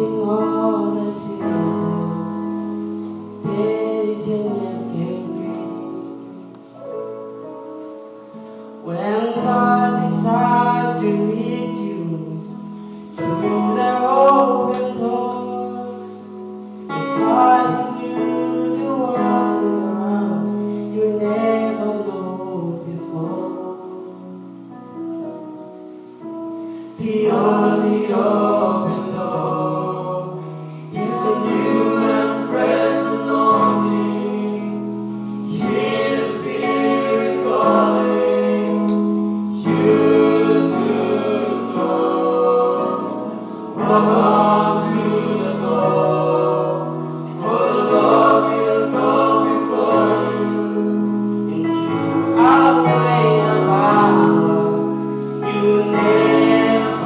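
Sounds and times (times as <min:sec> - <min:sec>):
men's choir singing a hymn: 0:00.0 - 0:06.2, 0:08.8 - 0:24.3, 0:26.8 - 0:57.0.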